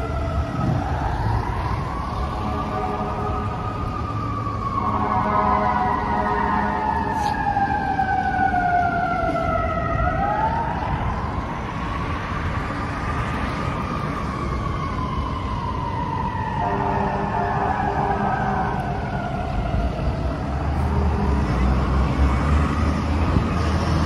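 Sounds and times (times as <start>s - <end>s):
siren wailing: 0.0s - 24.0s
street traffic rumbling: 0.0s - 24.0s.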